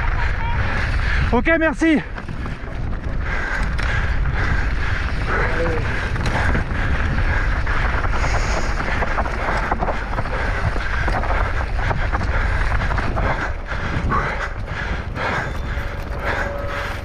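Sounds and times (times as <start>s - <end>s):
bike clicks and rattles: 0.0s - 17.0s
wind buffeting microphone: 0.0s - 17.0s.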